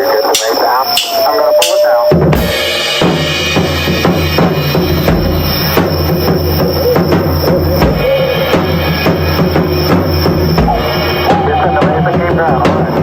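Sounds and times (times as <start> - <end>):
drum kit solo: 0.0 - 13.0.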